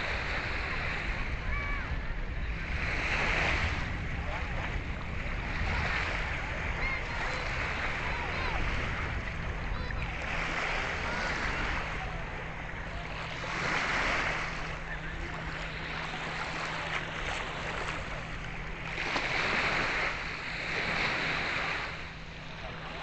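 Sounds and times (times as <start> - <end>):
small waves washing onto shore: 0.0 - 23.0
wind rumble on microphone: 0.0 - 23.0.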